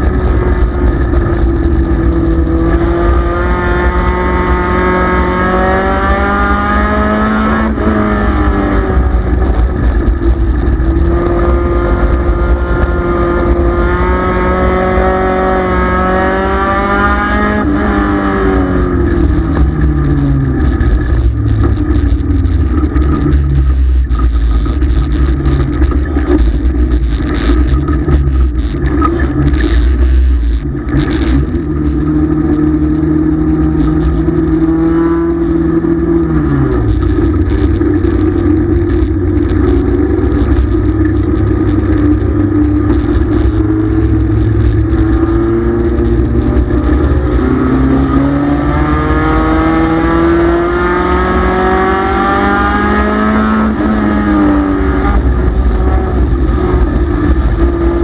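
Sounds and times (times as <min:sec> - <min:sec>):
race car engine from cockpit: 0:00.0 - 0:58.0.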